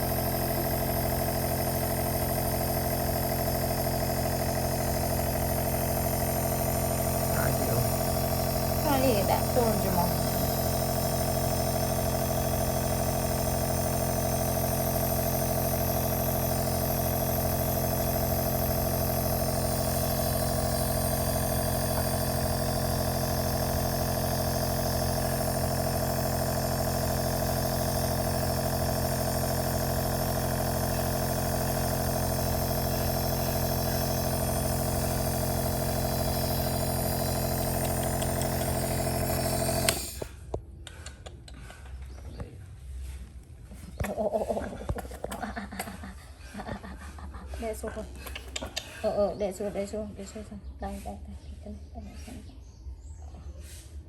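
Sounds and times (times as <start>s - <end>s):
nebulizer mechanical hum: 0.0s - 54.0s.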